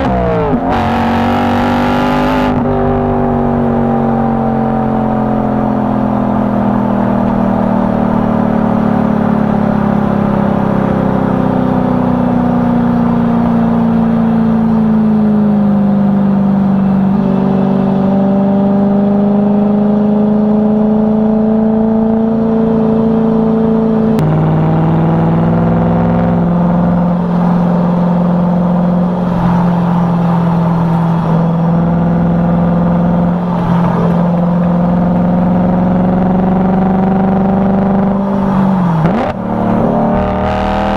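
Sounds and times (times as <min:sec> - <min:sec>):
car engine and exhaust with gear changes: 0:00.0 - 0:40.9.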